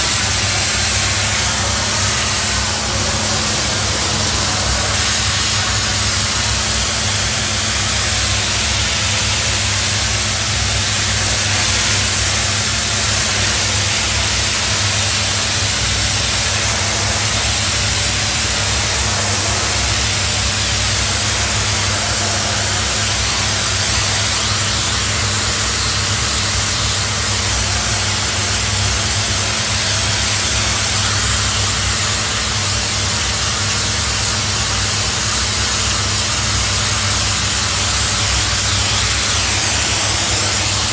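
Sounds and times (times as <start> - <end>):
steam cleaner hissing: 0.0 - 40.9.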